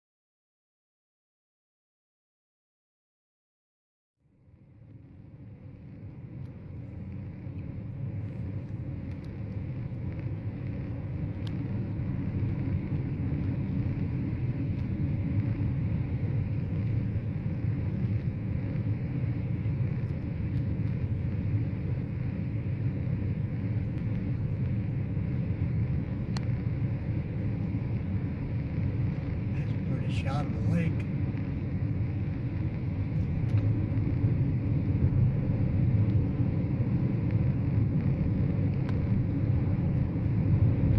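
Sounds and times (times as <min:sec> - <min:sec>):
car road and engine rumble: 0:04.2 - 0:40.9.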